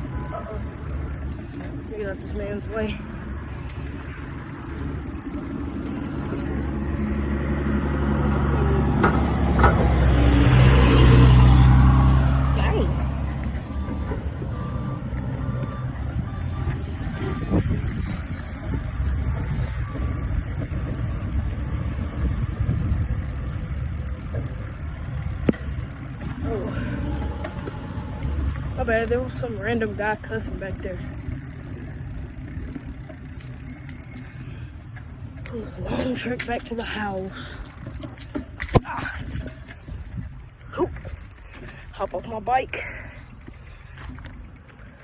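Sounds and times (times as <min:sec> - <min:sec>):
wind buffeting microphone: 0:00.0 - 0:36.3, 0:37.7 - 0:41.8
vehicle engine running: 0:00.0 - 0:45.0.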